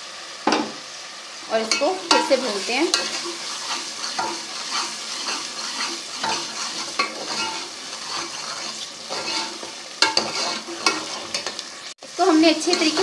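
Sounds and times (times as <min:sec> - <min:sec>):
masala sizzling in hot oil: 0:00.0 - 0:13.0
spoon stirring and scraping pan: 0:01.5 - 0:13.0.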